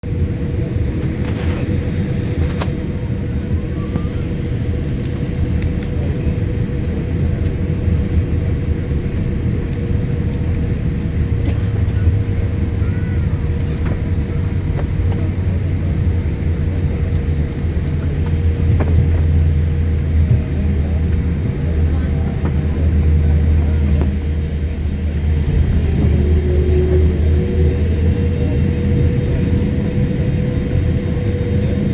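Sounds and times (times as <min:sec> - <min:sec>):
distant jet engines rumbling: 0:00.0 - 0:31.9.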